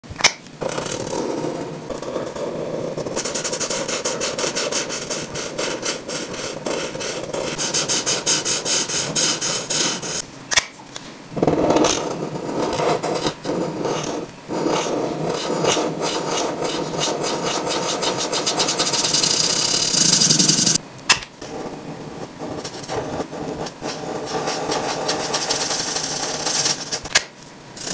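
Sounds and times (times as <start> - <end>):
marker scratching across paper: 0.6 - 10.2, 11.4 - 20.8, 21.4 - 27.2.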